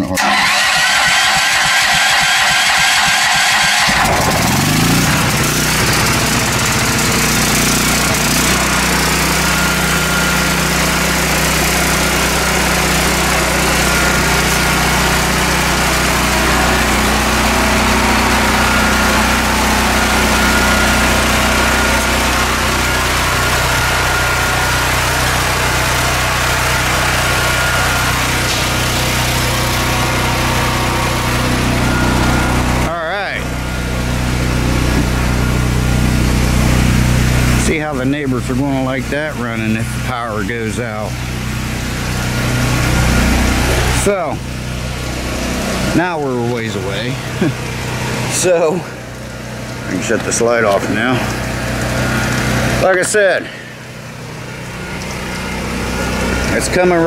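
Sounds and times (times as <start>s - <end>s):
electric starter cranking: 0.0s - 57.0s
generator engine running: 0.0s - 57.0s.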